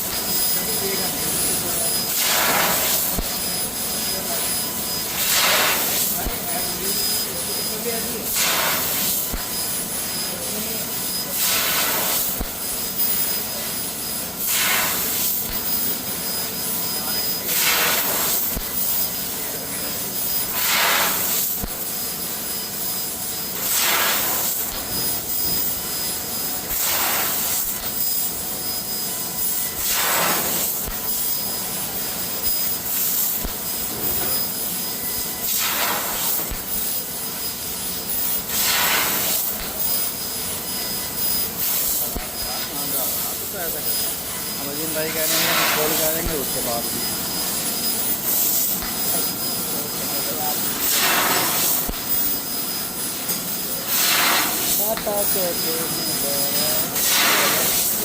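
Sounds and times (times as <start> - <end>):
laser cutter gas hiss: 0.0 - 58.0.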